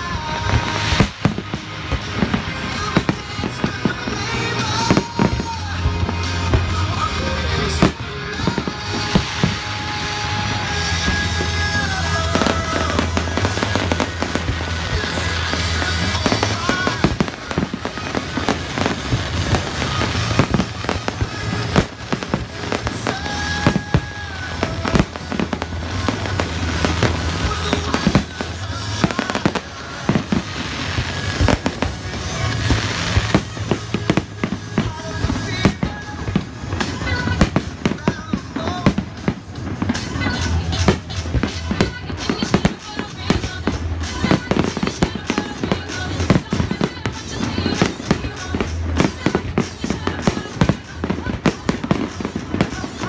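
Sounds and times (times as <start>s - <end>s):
fireworks bangs and crackles: 0.0s - 53.0s
music playing: 0.0s - 53.0s.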